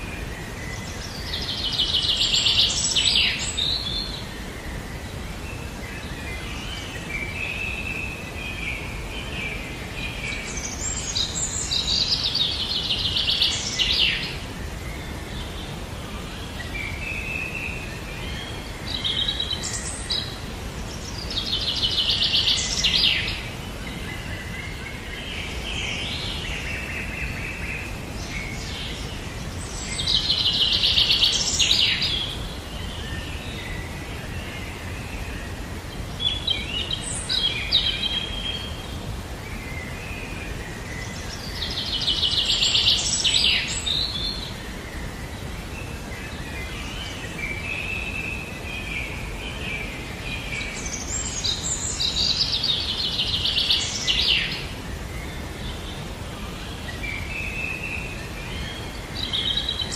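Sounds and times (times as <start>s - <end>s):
songbird singing with trill: 0.0s - 59.9s.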